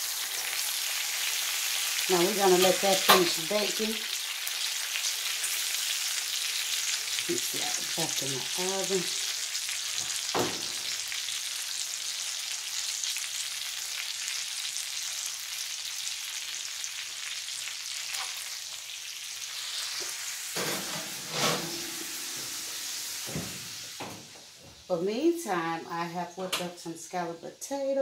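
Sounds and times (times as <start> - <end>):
meat sizzling in a roasting pan: 0.0 - 26.3.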